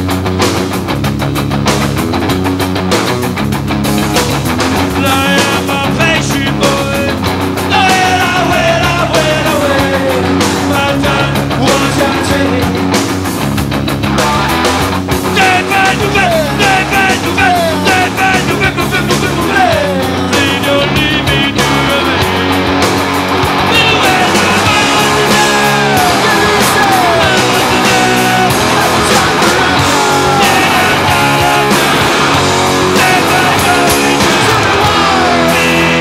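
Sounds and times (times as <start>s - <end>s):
punk rock band playing: 0.0s - 36.0s
shouted lead vocal: 4.9s - 13.0s, 14.0s - 22.7s, 23.4s - 36.0s.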